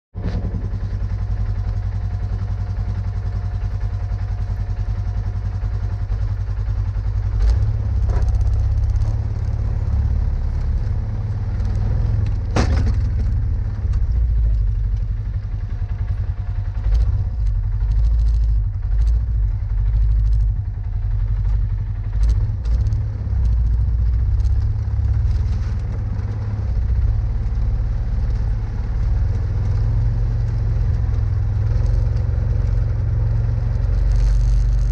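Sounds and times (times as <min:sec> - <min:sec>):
atv engine running: 0:00.2 - 0:34.9
plow blade pushing snow: 0:00.2 - 0:34.9.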